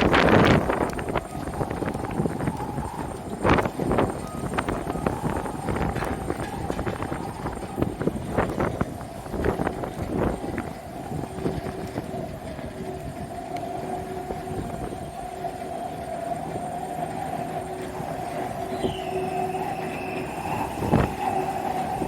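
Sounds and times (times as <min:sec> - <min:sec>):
jet engine whine: 0:00.0 - 0:22.0
wind gusts on microphone: 0:00.0 - 0:22.0.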